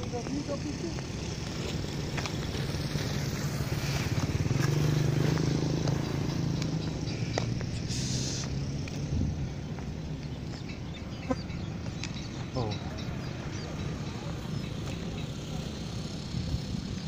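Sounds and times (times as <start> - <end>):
motor engine droning: 0.0 - 17.0.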